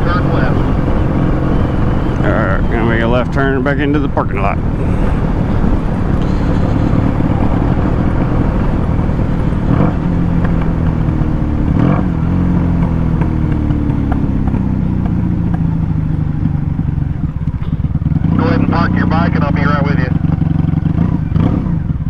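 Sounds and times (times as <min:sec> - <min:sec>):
motorcycle engine through loud exhaust: 0:00.0 - 0:22.0.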